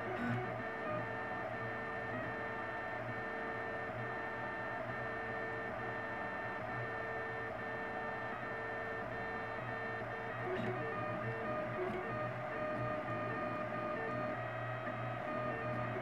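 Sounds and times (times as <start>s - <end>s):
printer stepper motors whining: 0.0s - 16.0s.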